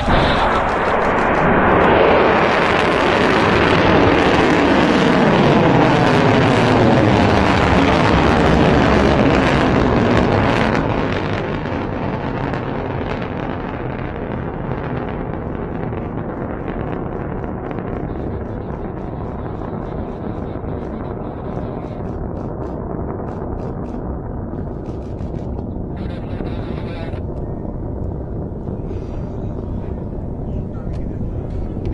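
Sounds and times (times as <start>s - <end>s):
rocket motor roaring: 0.0s - 31.9s.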